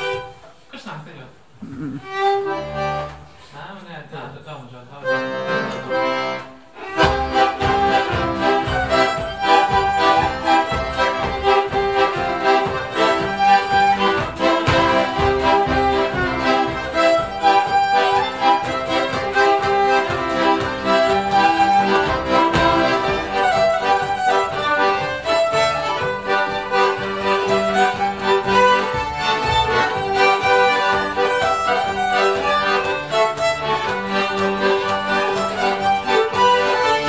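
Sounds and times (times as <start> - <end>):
button accordion: 0.0 - 0.4, 1.8 - 3.4, 5.0 - 37.0
fiddles playing polka: 0.0 - 0.6, 1.8 - 3.3, 5.0 - 37.0.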